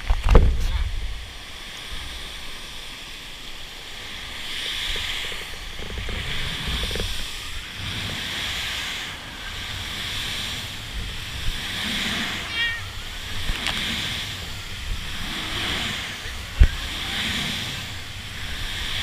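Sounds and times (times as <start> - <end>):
wind on microphone: 0.0 - 19.0
waterfall rushing: 1.1 - 19.0.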